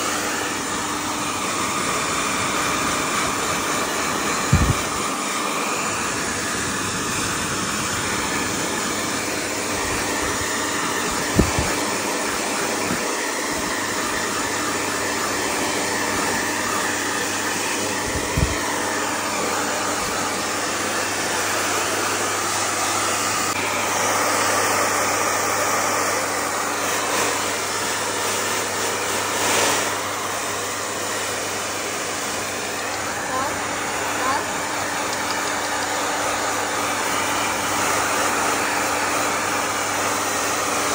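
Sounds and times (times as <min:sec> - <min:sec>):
blow dryer running: 0:00.0 - 0:40.9.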